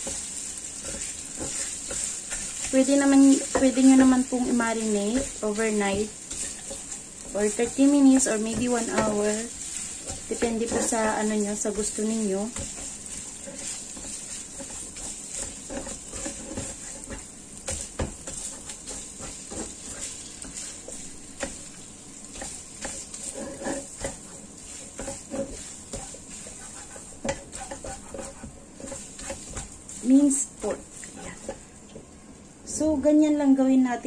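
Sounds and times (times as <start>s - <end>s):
spatula scraping pan: 0.0s - 31.8s
meat sizzling in oil: 0.0s - 31.9s.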